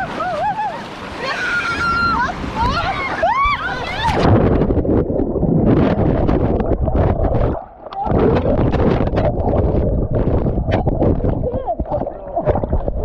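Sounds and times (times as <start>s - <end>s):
churning whitewater splashing: 0.0s - 13.0s
water slapping microphone: 0.0s - 13.0s.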